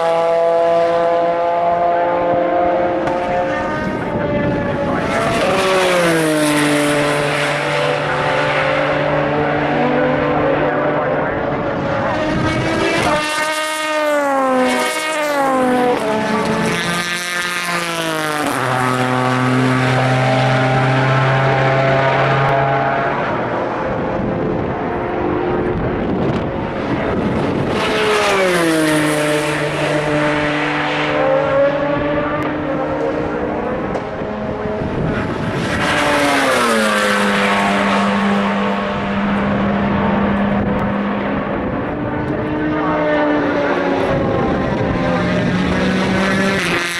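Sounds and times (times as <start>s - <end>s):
racing cars passing: 0.0s - 46.9s.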